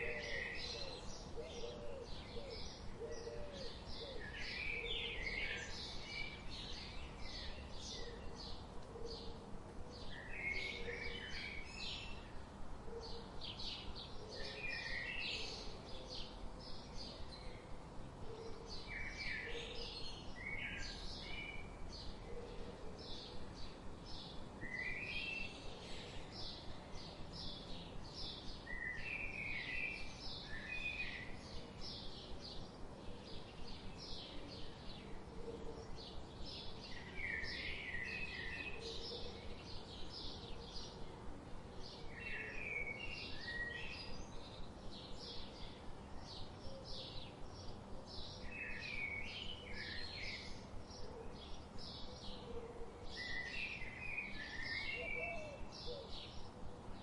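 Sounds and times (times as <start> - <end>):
outdoor background hiss: 0.0 - 57.0
songbirds chirping: 0.0 - 57.0.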